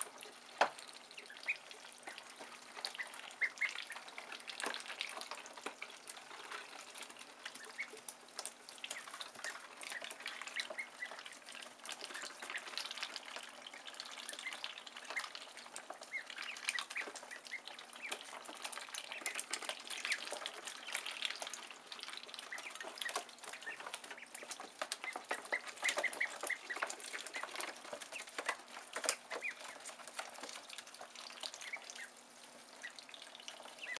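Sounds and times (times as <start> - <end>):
bills dabbling in water: 0.0 - 34.0
ducklings peeping: 0.0 - 34.0.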